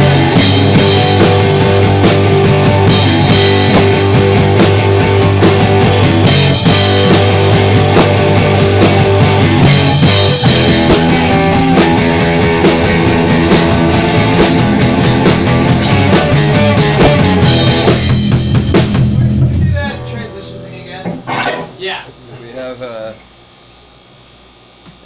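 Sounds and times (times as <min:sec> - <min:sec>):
rock band playing loudly: 0:00.0 - 0:22.1
electric guitar chords: 0:00.0 - 0:22.3
bass guitar: 0:00.0 - 0:22.6
drums: 0:00.0 - 0:25.0.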